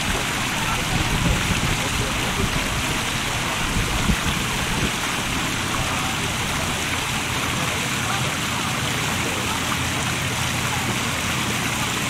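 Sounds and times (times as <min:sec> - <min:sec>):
water rushing along shore: 0:00.0 - 0:12.0.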